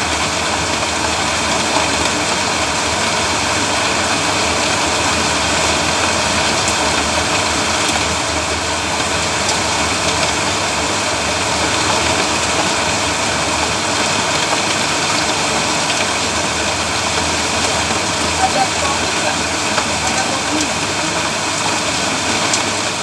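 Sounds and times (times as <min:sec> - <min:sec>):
heavy rain hissing: 0:00.0 - 0:23.0
raindrop ticks: 0:00.2 - 0:23.0.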